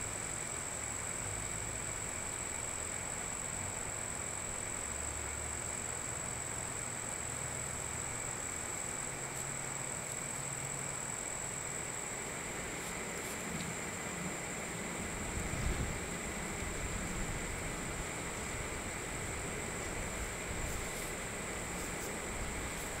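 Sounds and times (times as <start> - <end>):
high insect chorus: 0.0 - 23.0.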